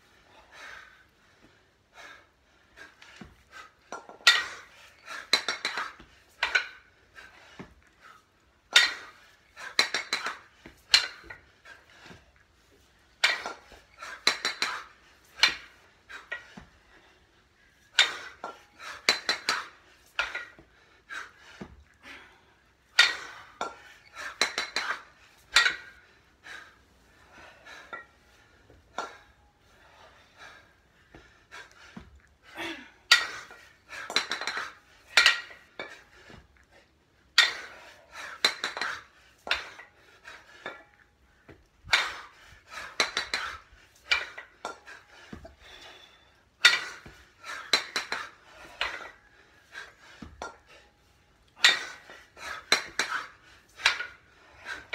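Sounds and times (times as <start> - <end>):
kettlebells clanking together: 2.8 - 12.3, 13.1 - 17.1, 17.7 - 26.7, 27.3 - 36.4, 37.3 - 54.9.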